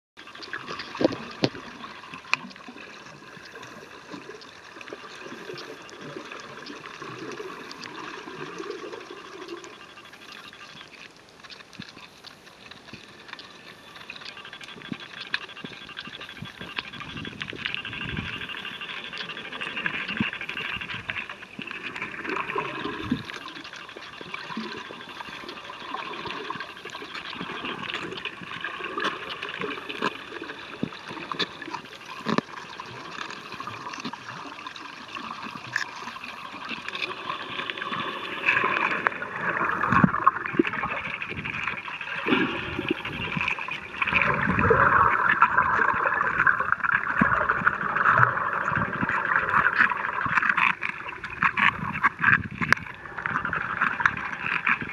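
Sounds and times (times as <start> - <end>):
muffled water sloshing and gurgling: 0.2 - 54.9.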